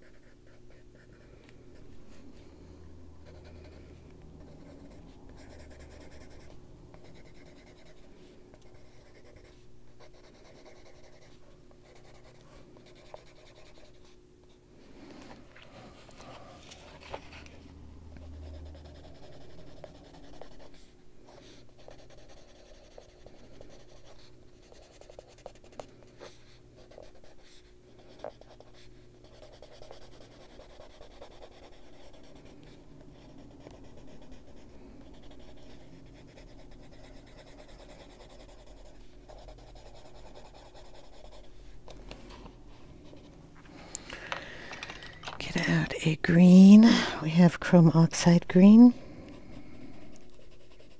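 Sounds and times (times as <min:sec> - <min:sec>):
pencil scratching on paper: 0:00.0 - 0:01.9, 0:03.2 - 0:14.2, 0:18.2 - 0:41.6, 0:45.4 - 0:50.9.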